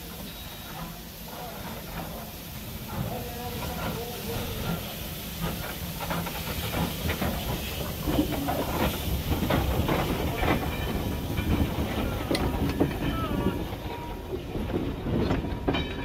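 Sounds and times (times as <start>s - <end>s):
locomotive wheels clanking on rails: 0.0s - 16.0s
steam hissing: 0.0s - 16.0s.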